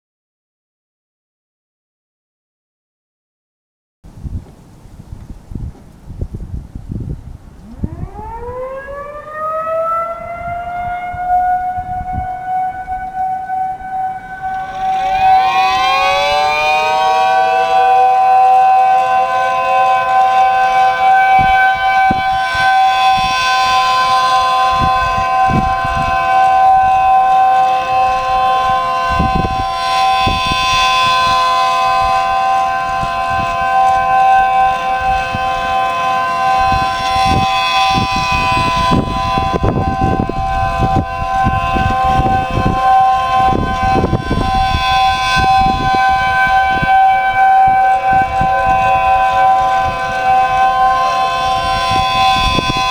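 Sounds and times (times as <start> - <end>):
wind buffeting microphone: 4.1 - 52.9
second siren tones: 7.6 - 52.9
siren winding up: 7.6 - 52.9.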